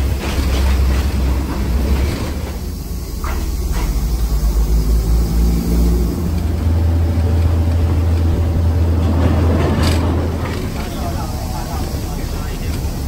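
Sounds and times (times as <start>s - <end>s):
train diesel engine droning: 0.0s - 13.0s.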